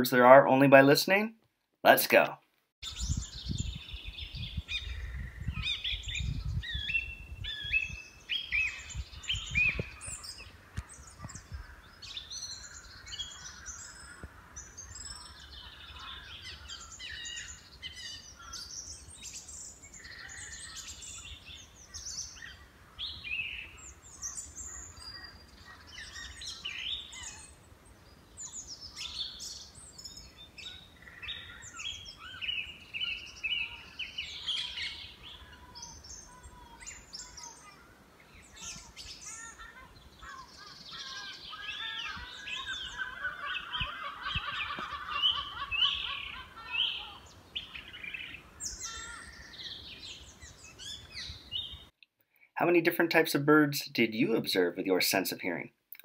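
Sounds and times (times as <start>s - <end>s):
birds chirping and singing: 2.8s - 51.9s.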